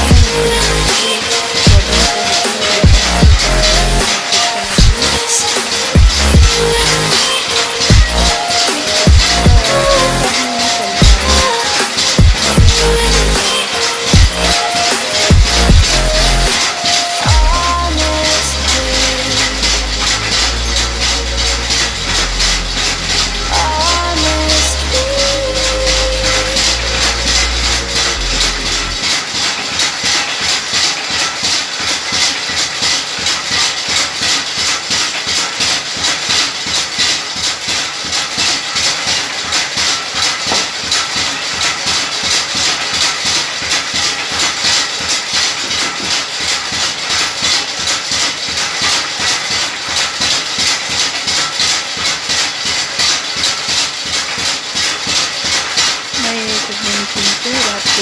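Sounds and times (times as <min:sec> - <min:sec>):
pounding machine knocking: 0:00.0 - 0:58.0.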